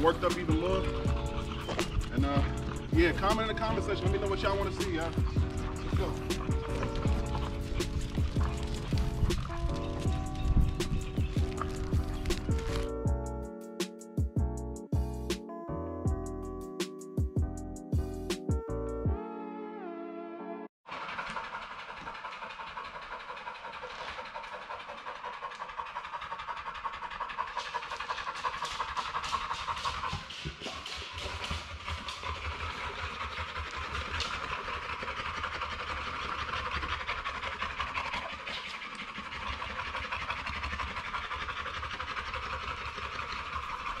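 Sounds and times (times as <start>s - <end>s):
dog panting: 0.0s - 13.4s, 20.9s - 44.0s.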